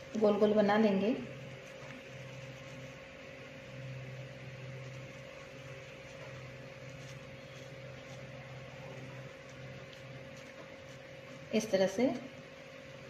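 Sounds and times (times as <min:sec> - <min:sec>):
mechanical room hum: 0:00.0 - 0:13.0.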